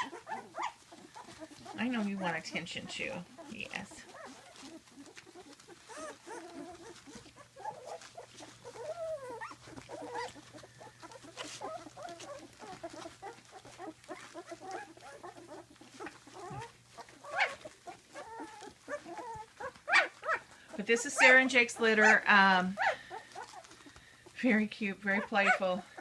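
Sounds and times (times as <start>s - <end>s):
puppies whining and squeaking: 0.0s - 26.0s.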